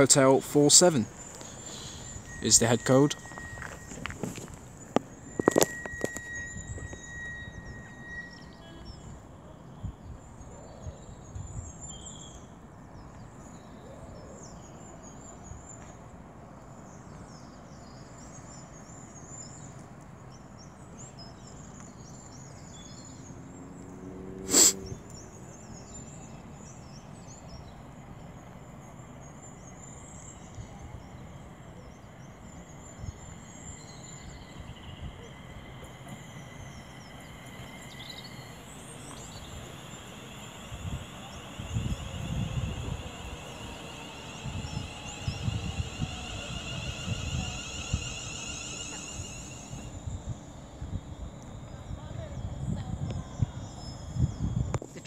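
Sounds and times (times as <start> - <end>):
birds chirping: 0.0 - 52.6.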